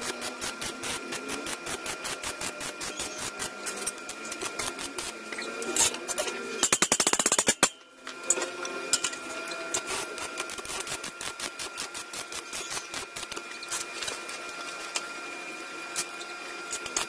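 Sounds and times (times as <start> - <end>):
arc welder crackling: 0.0 - 7.7, 9.0 - 15.1.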